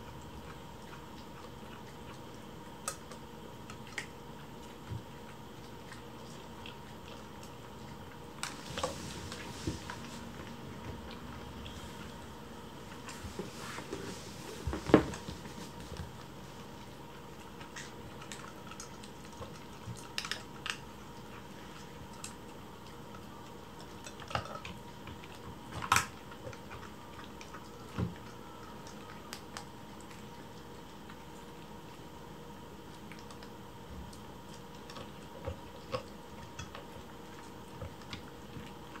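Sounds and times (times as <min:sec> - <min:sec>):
kittens eating from bowls: 0:00.0 - 0:39.0.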